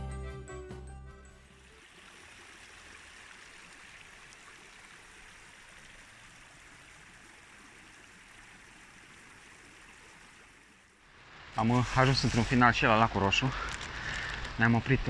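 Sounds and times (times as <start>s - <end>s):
stream flowing over rocks: 1.4s - 14.7s.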